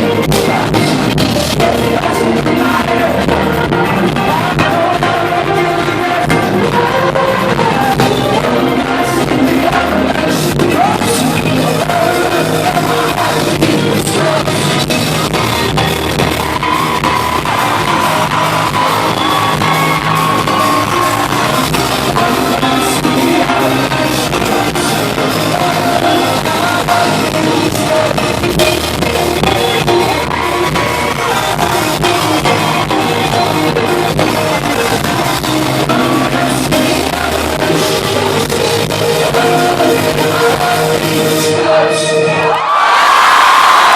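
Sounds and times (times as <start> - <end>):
music with singing voice: 0.0 - 43.9.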